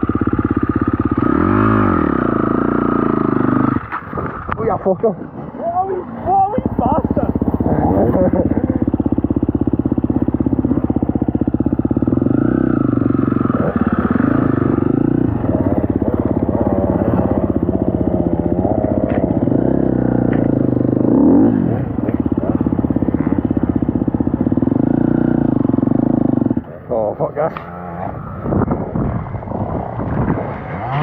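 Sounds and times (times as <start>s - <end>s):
dirt bike engine revving: 0.0s - 4.5s, 5.8s - 31.0s.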